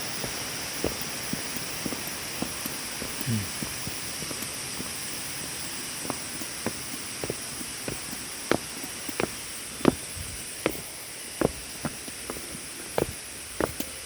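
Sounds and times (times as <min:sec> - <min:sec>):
high background hiss: 0:00.0 - 0:14.0
soft footsteps walking: 0:00.0 - 0:14.0.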